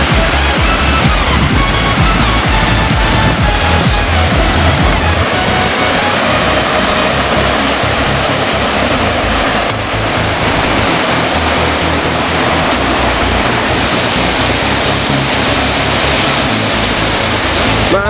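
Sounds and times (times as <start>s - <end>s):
music playing: 0.0s - 18.0s
waterfall rushing: 0.0s - 18.0s.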